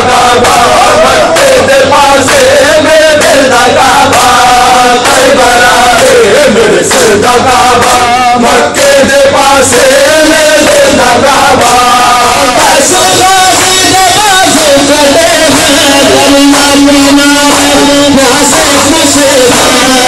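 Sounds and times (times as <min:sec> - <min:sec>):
men chanting a mourning lament: 0:00.0 - 0:20.0.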